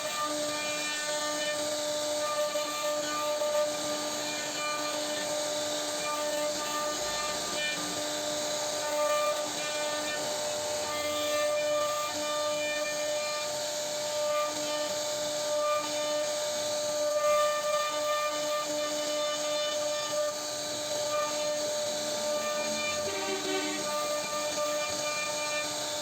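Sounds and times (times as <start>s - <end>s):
bit cutting wood hiss: 0.0s - 26.0s
router spindle whining: 0.0s - 26.0s.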